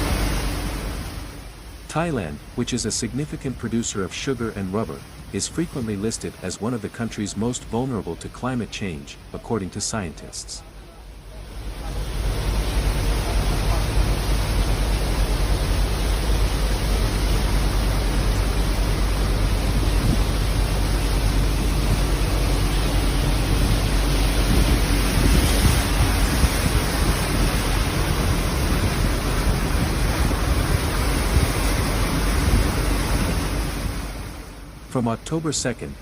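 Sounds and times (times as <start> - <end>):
heavy water rushing: 0.0 - 36.0.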